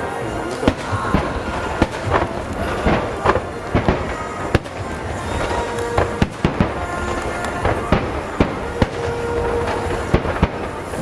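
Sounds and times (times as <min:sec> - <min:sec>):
fireworks bursting with sharp bangs: 0:00.0 - 0:11.0
rumble of echoing explosions: 0:00.0 - 0:11.0.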